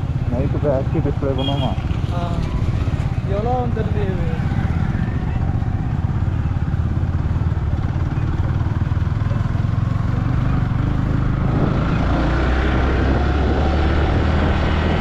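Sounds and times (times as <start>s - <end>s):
motorcycle engine running: 0.0s - 14.5s
road and air noise: 0.0s - 15.0s.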